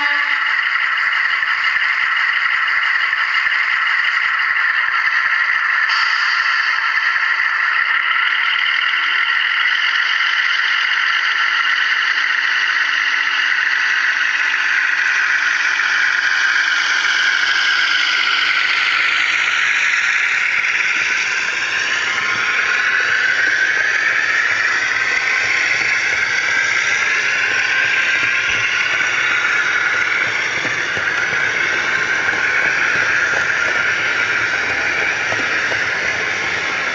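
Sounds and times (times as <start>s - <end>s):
model locomotive diesel engine sound: 0.0s - 36.9s.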